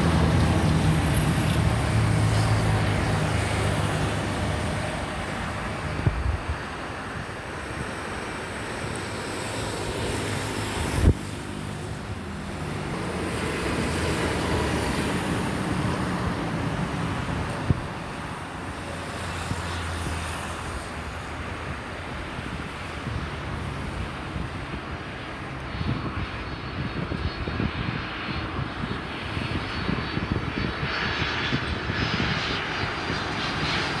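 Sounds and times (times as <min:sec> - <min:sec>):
jet engines rumbling: 0:00.0 - 0:34.0
wind on microphone: 0:00.0 - 0:34.0.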